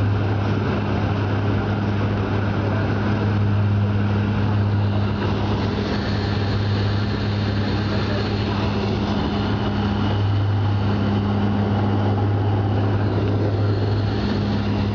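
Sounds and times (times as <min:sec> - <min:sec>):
airliner engine drone: 0:00.0 - 0:14.9
low cabin hum: 0:00.0 - 0:14.9.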